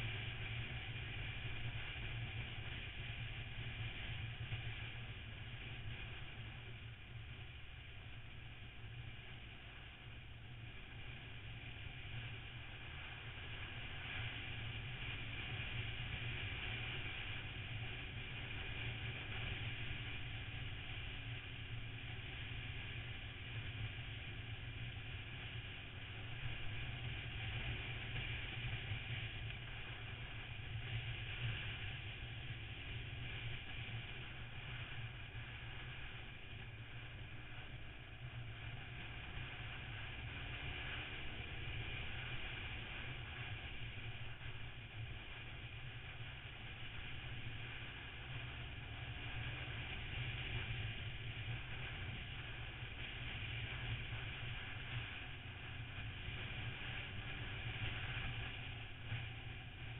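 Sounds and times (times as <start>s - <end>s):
engine drone: 0.0s - 59.9s
wind and road noise: 0.0s - 59.9s.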